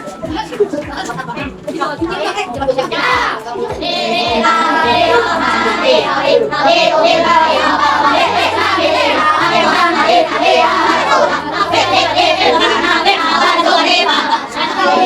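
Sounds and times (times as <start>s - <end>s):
instrumental music with bass: 0.0s - 14.3s
children singing together: 0.0s - 15.0s.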